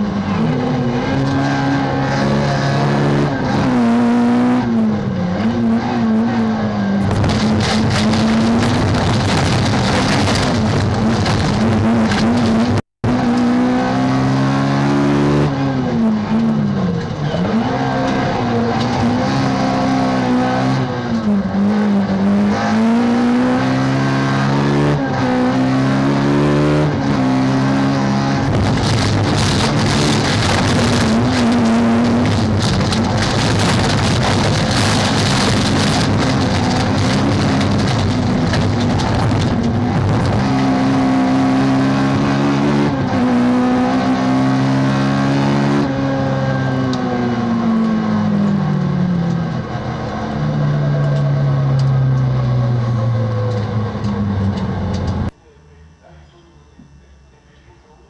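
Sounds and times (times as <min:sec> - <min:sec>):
car engine revving: 0:00.0 - 0:55.3.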